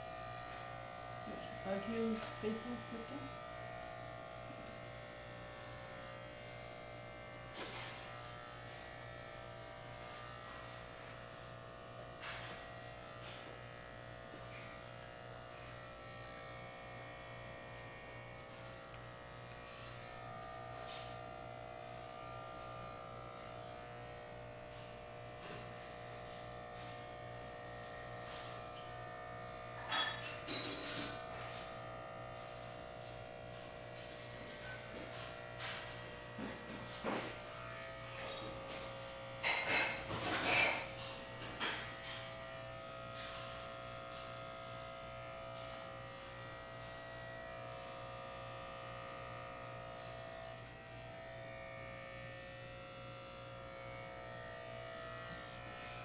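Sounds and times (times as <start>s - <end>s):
electric hair clippers buzzing: 0.0s - 56.0s.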